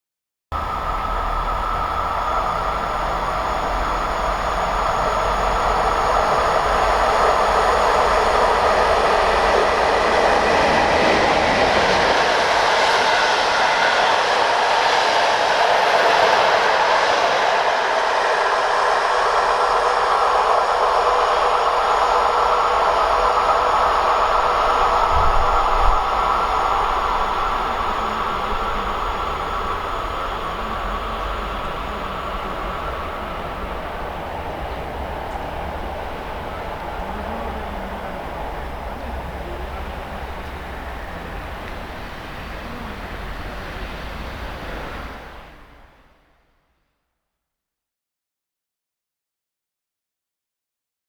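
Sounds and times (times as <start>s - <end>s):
train rumbling past on rails: 0.5s - 46.6s.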